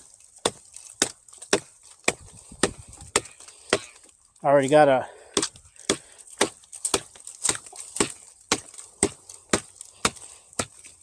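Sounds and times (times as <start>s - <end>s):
hatchet chopping branch: 0.0s - 4.1s, 5.2s - 11.0s.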